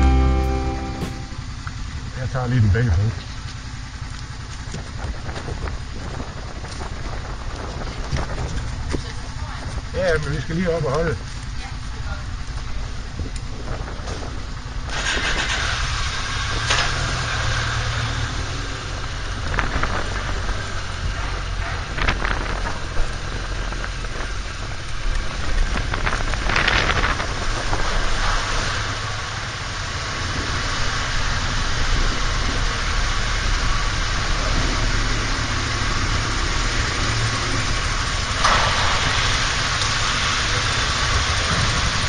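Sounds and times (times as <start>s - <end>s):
wind and road noise: 1.2s - 42.0s.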